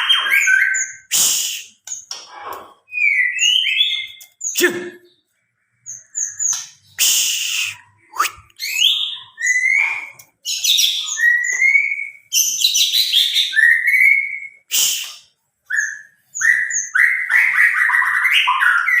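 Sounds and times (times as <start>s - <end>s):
songbird singing whistles: 0.0s - 2.2s, 2.9s - 4.7s, 5.9s - 19.0s.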